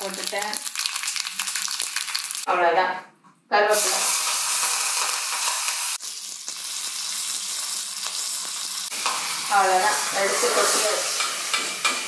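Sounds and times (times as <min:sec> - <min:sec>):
hot oil sizzling: 0:00.0 - 0:02.5, 0:03.7 - 0:12.0.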